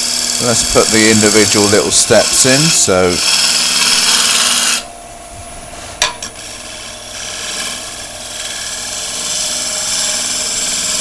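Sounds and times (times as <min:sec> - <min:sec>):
chisel cutting wood on lathe: 0:00.0 - 0:04.8, 0:06.2 - 0:11.0
lathe humming: 0:00.0 - 0:11.0.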